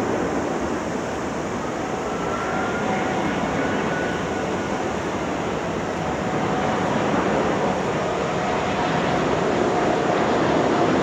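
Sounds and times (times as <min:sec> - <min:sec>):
faint high whine: 0:00.0 - 0:11.0
jet engine roar: 0:00.0 - 0:11.0.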